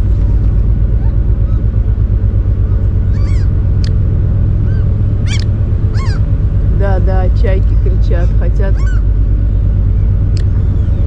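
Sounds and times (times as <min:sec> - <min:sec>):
gulls calling: 0:00.0 - 0:11.0
low pulsing rumble: 0:00.0 - 0:11.0.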